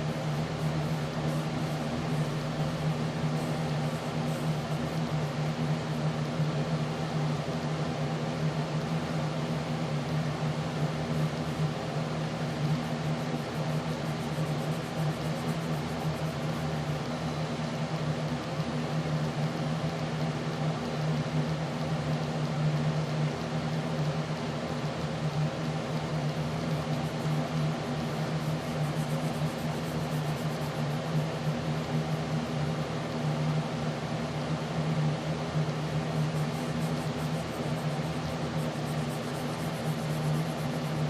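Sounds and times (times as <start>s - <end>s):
machine hum with faint hiss: 0.0s - 41.0s.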